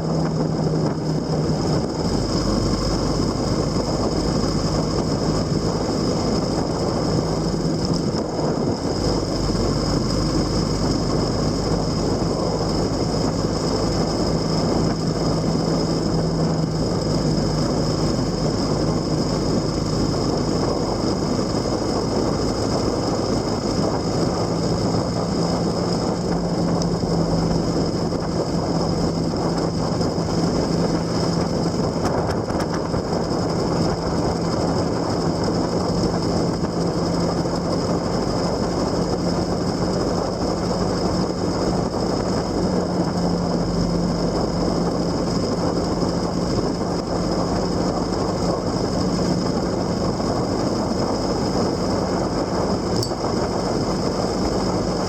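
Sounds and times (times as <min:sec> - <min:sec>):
road noise: 0:00.0 - 0:55.0
vehicle engine humming: 0:00.0 - 0:55.0
wind noise: 0:00.0 - 0:55.0.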